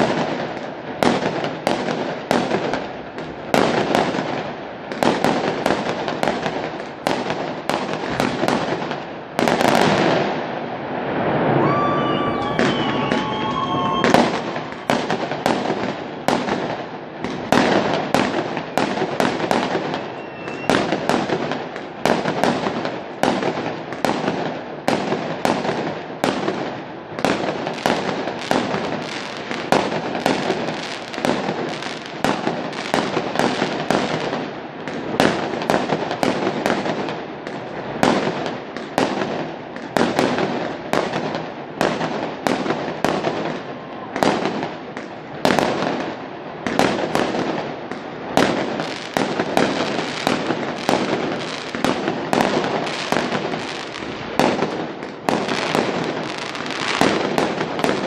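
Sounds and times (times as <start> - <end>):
fireworks bangs and pops: 0.0 - 58.0
fireworks crackle: 0.0 - 58.0.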